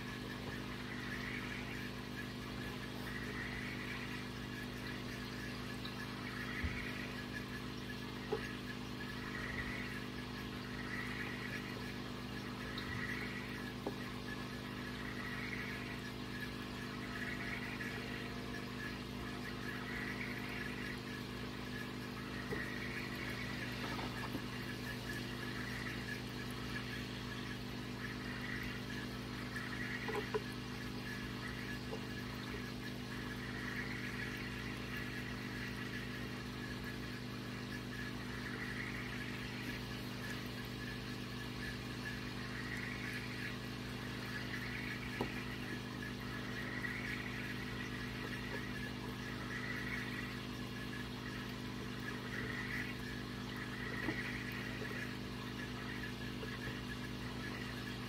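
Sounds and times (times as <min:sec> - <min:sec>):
filter electrical hum: 0:00.0 - 0:58.0
water trickling: 0:00.0 - 0:58.0.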